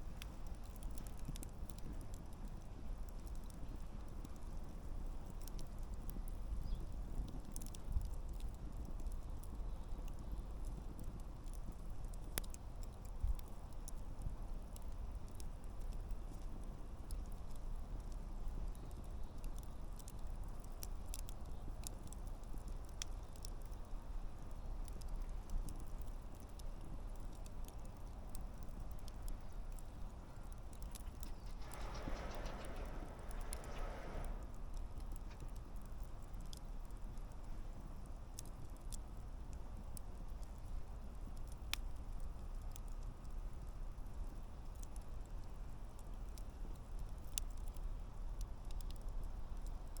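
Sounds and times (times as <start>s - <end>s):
burning logs crackling and popping: 0.0s - 50.0s
campfire low rumble: 0.0s - 50.0s
low rush of flames: 0.0s - 50.0s.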